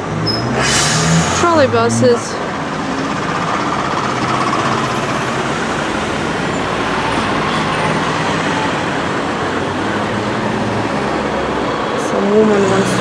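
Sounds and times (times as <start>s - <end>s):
busy city street traffic: 0.0s - 13.0s.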